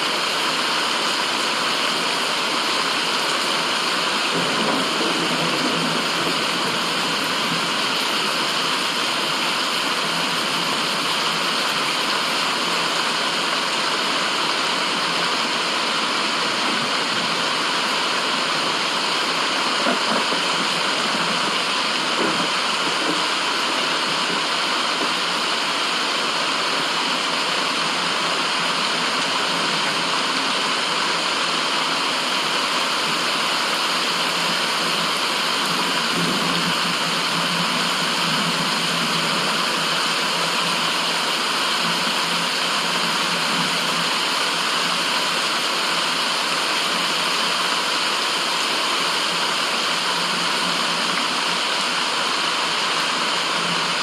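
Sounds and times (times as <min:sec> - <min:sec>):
rushing white noise: 0:00.0 - 0:54.0.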